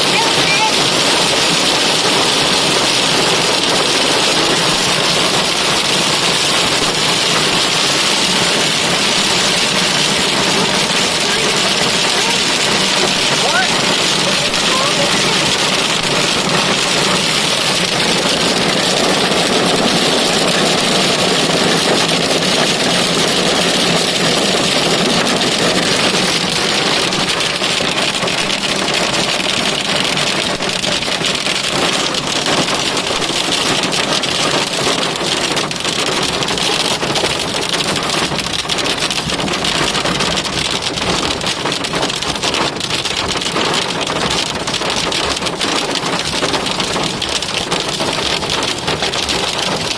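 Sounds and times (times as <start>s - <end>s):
hail pelting a car: 0.0s - 49.9s.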